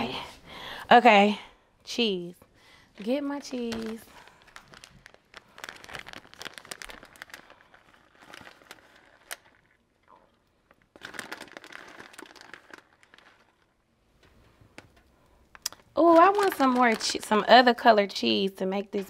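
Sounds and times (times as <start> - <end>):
plastic packaging crinkling: 3.0 - 18.2.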